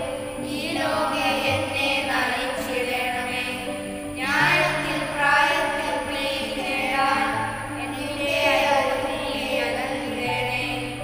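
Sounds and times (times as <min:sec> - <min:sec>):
children singing a hymn: 0:00.0 - 0:11.0.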